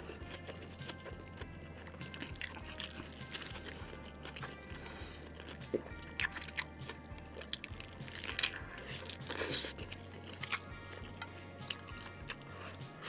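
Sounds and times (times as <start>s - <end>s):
chewing fried chicken: 0.0s - 13.0s
crunching: 0.0s - 13.0s.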